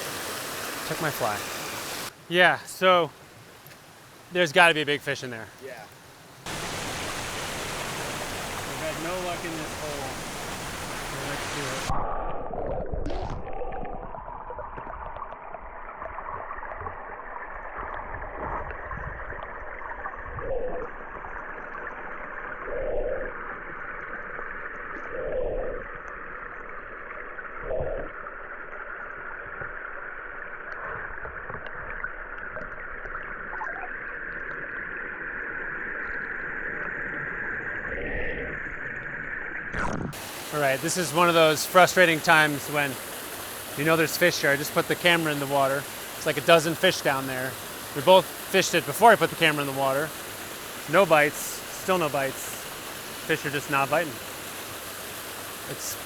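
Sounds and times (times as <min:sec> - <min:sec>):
muffled underwater creek current: 0:00.0 - 0:56.0.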